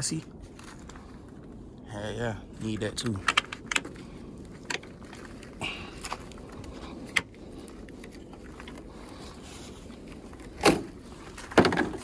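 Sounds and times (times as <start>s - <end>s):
steady low background noise: 0.0s - 12.0s.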